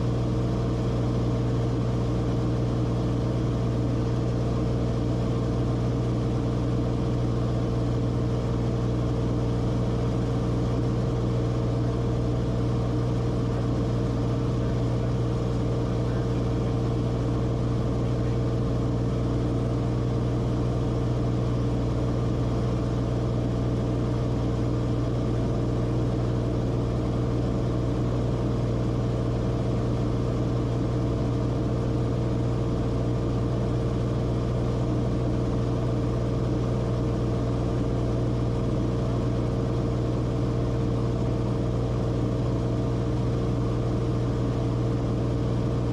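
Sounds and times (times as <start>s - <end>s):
aircraft engine and propeller droning: 0.0s - 45.9s.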